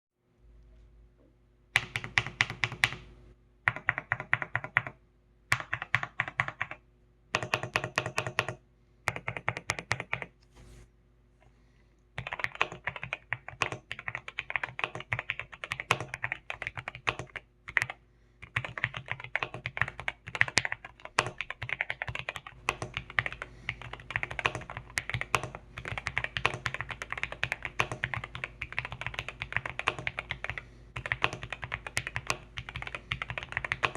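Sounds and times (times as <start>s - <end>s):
mechanical keyboard typing: 3.7s - 6.8s, 7.4s - 10.3s, 12.2s - 33.9s.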